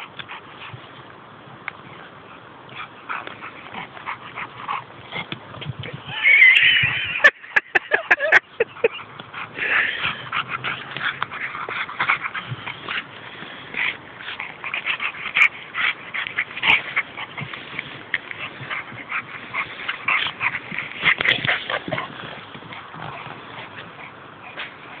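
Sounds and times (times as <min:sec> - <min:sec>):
dogs yipping and barking: 0:02.4 - 0:25.0.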